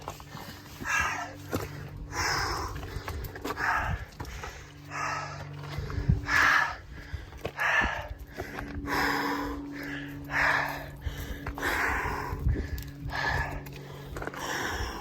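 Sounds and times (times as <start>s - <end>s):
person breathing hard: 0.0s - 15.0s.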